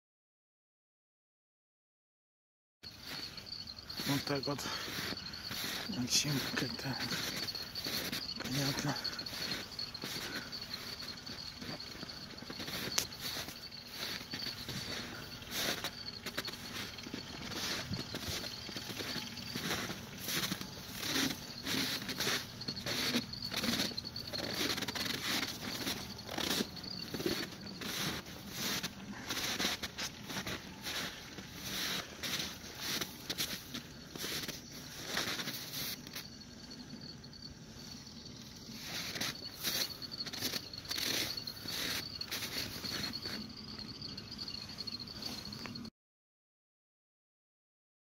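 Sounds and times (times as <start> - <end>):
footsteps crunching on snow: 2.9 - 36.8, 37.8 - 45.8.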